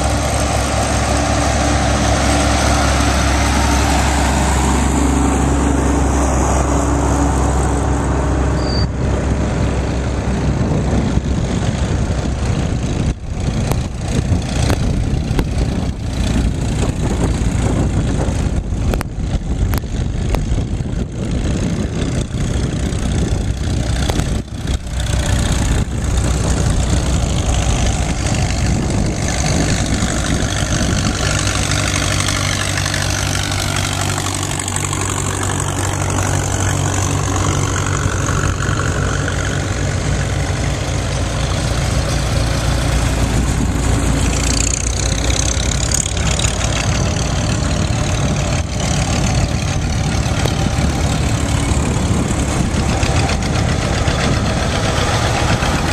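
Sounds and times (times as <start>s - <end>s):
tractor engines passing: 0.0s - 55.9s.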